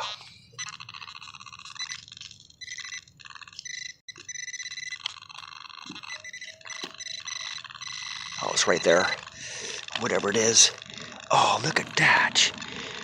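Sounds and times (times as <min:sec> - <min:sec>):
pinpointer probe buzzing: 0:00.0 - 0:11.3.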